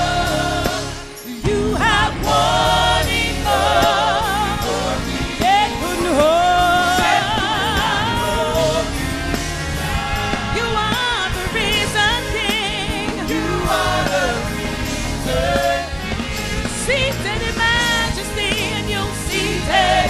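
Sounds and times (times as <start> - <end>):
backing band playing: 0.0 - 20.0
voices singing gospel: 0.0 - 20.0.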